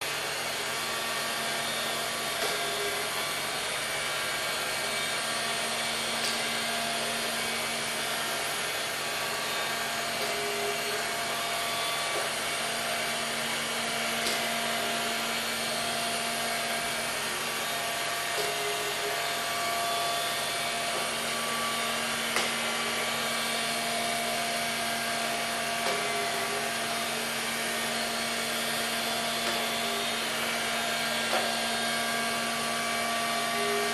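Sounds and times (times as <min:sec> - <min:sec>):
robotic vacuum cleaner whirring: 0:00.1 - 0:33.9.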